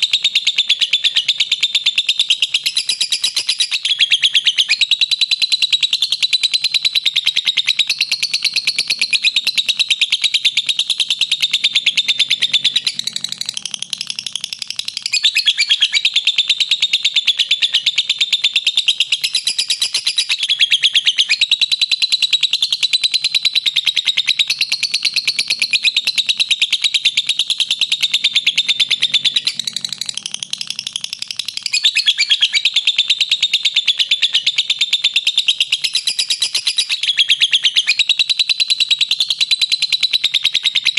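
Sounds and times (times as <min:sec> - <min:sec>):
bird shrill chattering song: 0:00.0 - 0:40.9.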